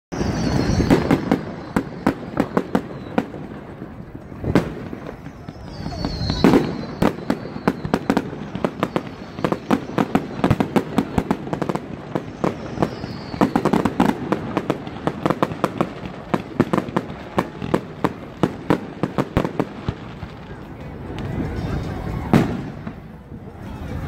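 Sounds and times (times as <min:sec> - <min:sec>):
falling firework whistle: 0:00.1 - 0:20.0
fireworks bangs and crackling pops: 0:00.1 - 0:23.8.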